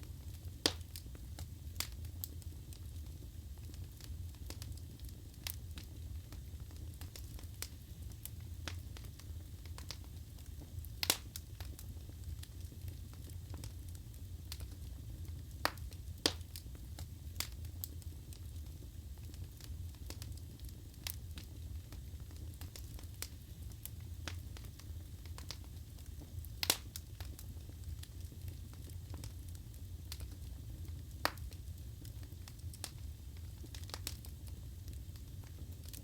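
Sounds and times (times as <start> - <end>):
logs crackling and popping: 0.1 - 36.0.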